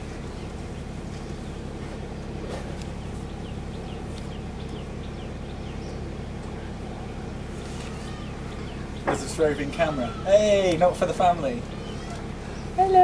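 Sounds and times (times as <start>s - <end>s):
birds chirping: 0.0s - 13.0s
boat engine humming: 0.0s - 13.0s.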